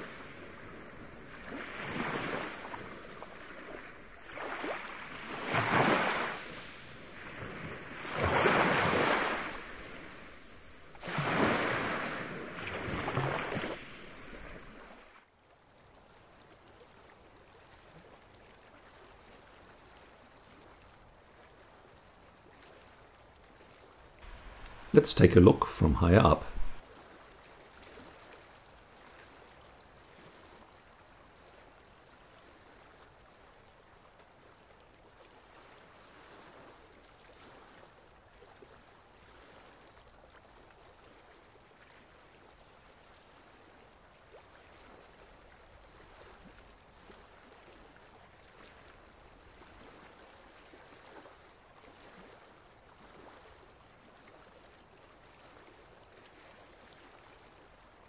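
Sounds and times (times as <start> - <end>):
faint rush of water: 0.0 - 58.0.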